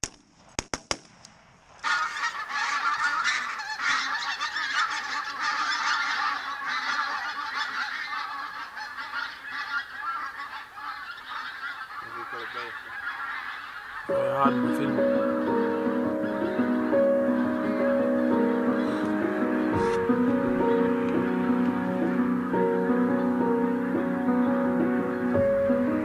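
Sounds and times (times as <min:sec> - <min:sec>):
geese honking: 0:01.8 - 0:26.0.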